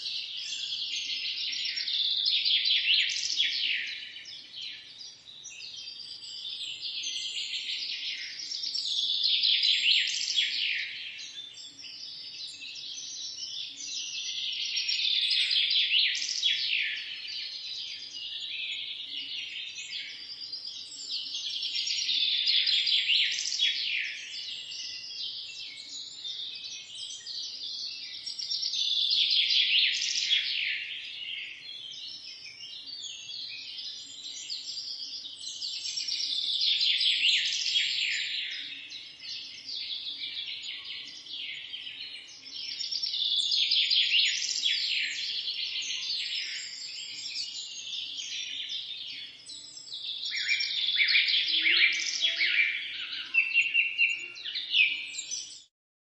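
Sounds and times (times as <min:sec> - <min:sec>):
songbirds chirping and twittering: 0:00.0 - 0:55.7.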